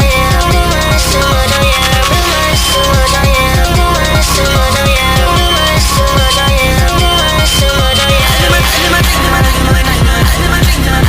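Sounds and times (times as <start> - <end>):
deep kick drum beat: 0.0 - 11.0
loud electronic music: 0.0 - 11.0.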